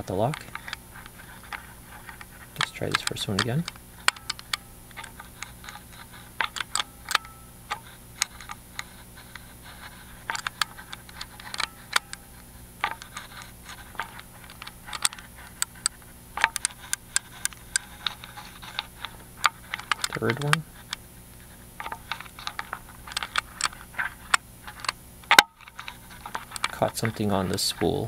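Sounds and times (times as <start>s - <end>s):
faint low hum: 0.0s - 28.0s
lock pick ticking and scraping: 0.0s - 28.0s.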